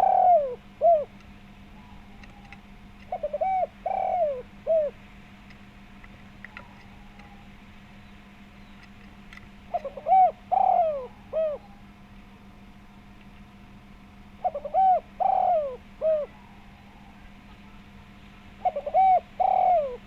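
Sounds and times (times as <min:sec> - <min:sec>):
dove cooing: 0:00.0 - 0:05.6, 0:06.2 - 0:07.7, 0:08.6 - 0:12.1, 0:14.1 - 0:20.0
steady low hum: 0:00.0 - 0:20.0.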